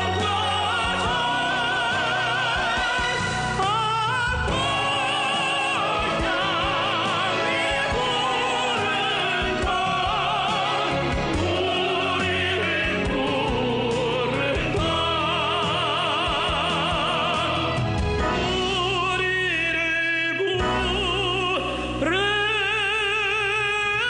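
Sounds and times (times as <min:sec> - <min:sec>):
instrumental accompaniment: 0:00.0 - 0:24.0
person singing with vibrato: 0:00.0 - 0:24.0.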